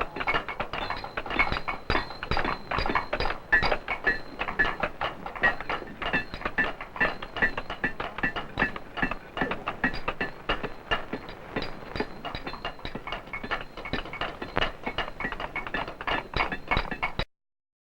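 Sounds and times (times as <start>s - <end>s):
metallic tapping and clinking: 0.0s - 17.3s.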